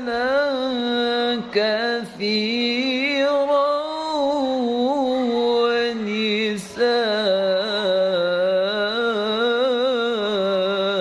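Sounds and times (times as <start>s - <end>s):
person chanting recitation: 0.0s - 11.0s.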